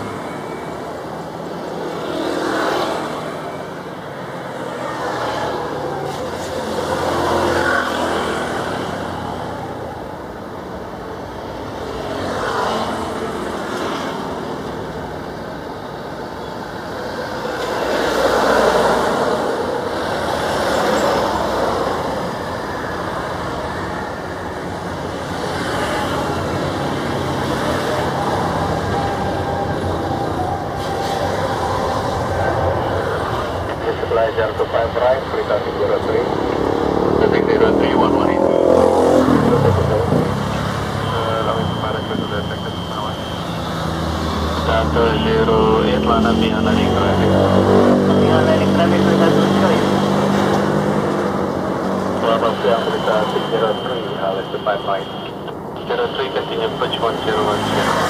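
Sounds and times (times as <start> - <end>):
jet engine roar: 0.0 - 58.0.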